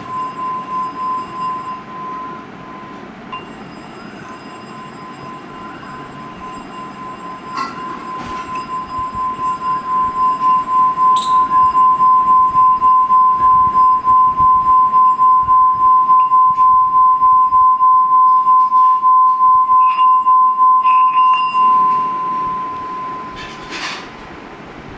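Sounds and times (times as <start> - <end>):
singing bowl high tone: 0.0 - 23.6.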